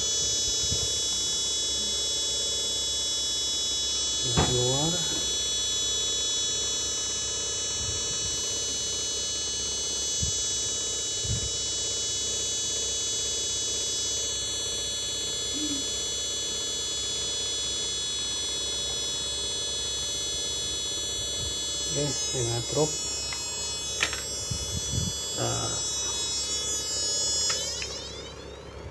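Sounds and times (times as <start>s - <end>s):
power supply high-pitched whine: 0.0s - 28.9s.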